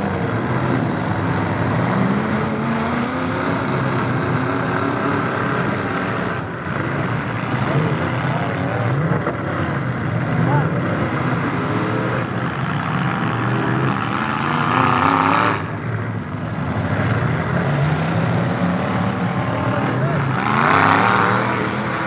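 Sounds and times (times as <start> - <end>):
truck engines revving: 0.0 - 22.0.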